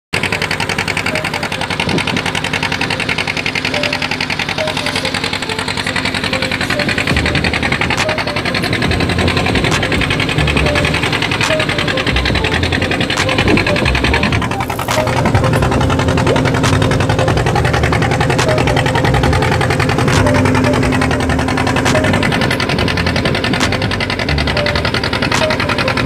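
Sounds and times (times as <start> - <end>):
boat engine chugging: 0.1 - 26.0.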